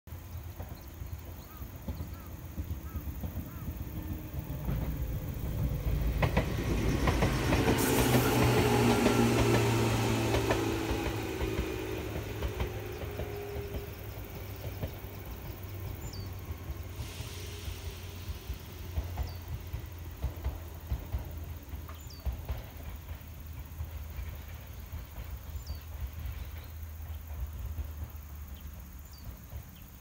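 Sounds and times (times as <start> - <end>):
electric train pulling away: 2.0 - 29.9.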